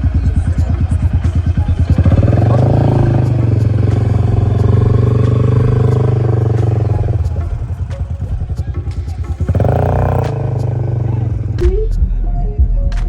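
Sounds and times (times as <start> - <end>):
motorcycle engine revving and idling: 0.0 - 12.1.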